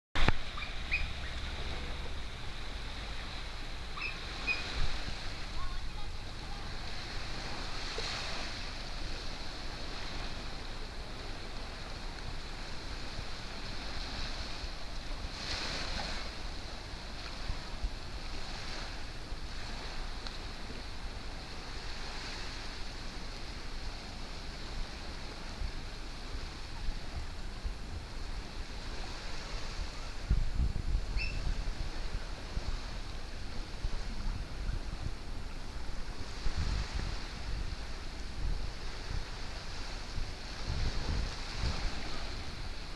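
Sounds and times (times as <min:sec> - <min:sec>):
sea surf washing on beach: 0:00.2 - 0:42.9
wind buffeting microphone: 0:00.2 - 0:42.9.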